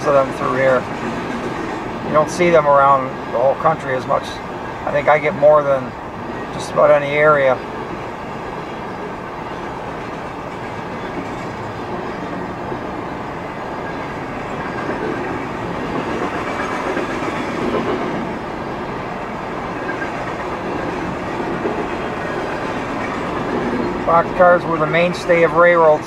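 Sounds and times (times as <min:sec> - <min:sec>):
freight train wheels on track: 0:00.0 - 0:26.0.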